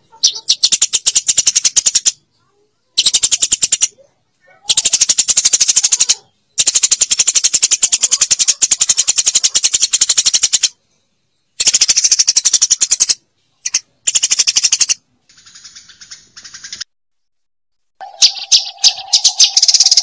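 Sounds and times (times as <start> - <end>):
sparrow chirping: 0.0 - 16.8, 18.0 - 20.0.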